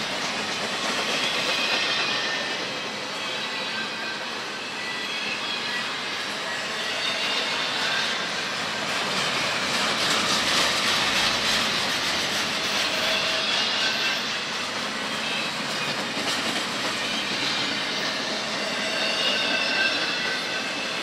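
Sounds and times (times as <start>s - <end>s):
train wheels clattering on track: 0.0s - 21.0s
high wheel squeals: 1.1s - 8.8s, 10.1s - 16.0s, 16.8s - 21.0s.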